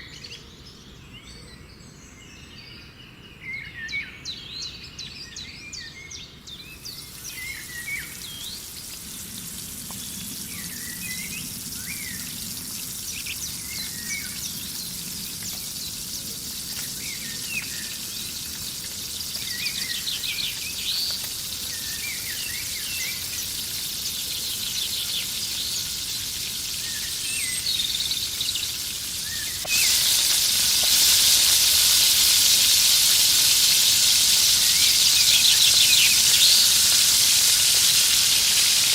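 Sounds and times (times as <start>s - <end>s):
birds chirping: 6.2s - 37.4s
food sizzling in hot oil: 6.7s - 38.9s.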